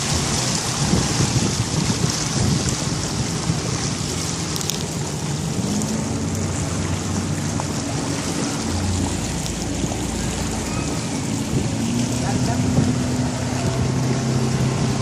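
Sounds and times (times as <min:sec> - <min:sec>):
motorboat engine running: 0:00.0 - 0:15.0
water rushing past hull: 0:00.0 - 0:15.0.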